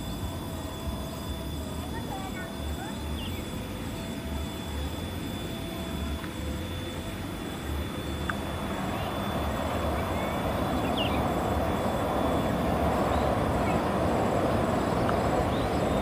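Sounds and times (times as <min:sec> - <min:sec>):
diesel locomotive approaching: 0:00.0 - 0:16.0.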